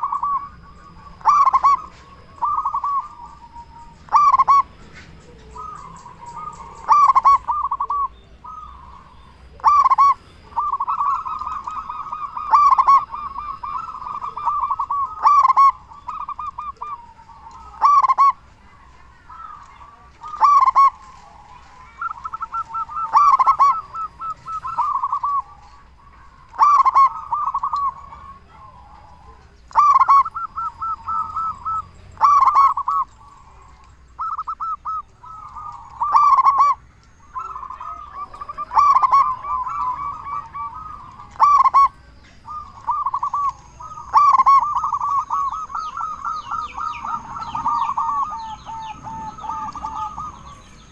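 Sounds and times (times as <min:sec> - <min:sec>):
doves cooing: 0:00.0 - 0:50.9.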